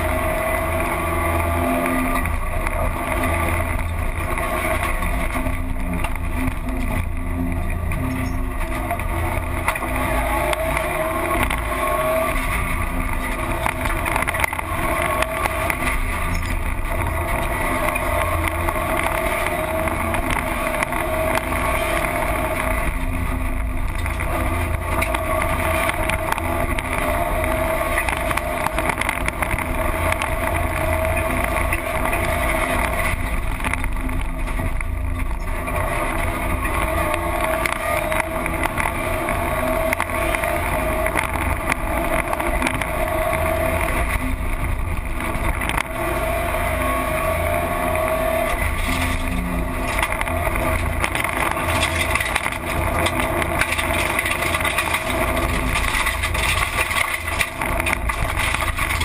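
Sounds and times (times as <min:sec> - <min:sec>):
rally car engine at high revs: 0:00.0 - 0:59.0
road and wind noise: 0:00.0 - 0:59.0.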